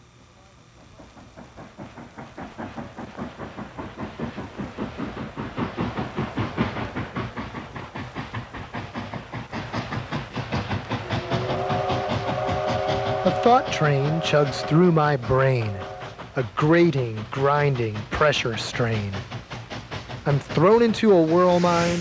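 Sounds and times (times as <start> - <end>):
steam locomotive chugging: 0.0 - 22.0.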